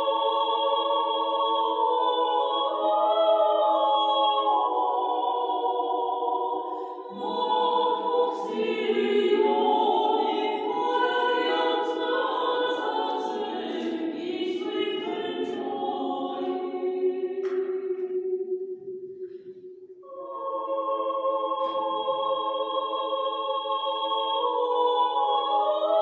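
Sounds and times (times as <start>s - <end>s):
choir singing a cappella: 0.0s - 26.0s.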